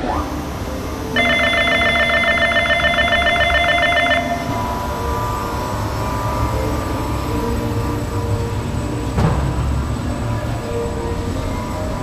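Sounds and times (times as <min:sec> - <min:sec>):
ride hydraulic drive rumble: 0:00.0 - 0:12.0
electric warning bell ringing: 0:00.3 - 0:12.0.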